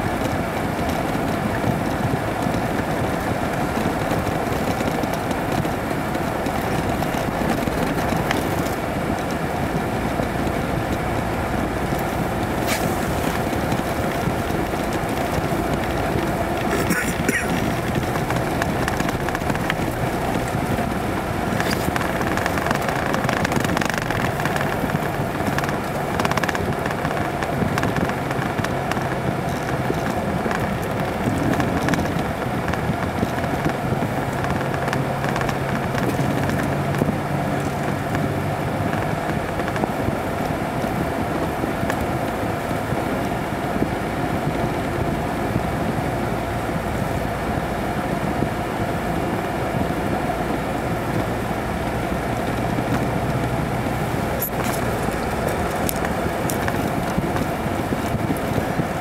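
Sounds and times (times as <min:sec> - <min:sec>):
car engine running: 0:00.0 - 0:59.0
tyre and road noise: 0:00.0 - 0:59.0.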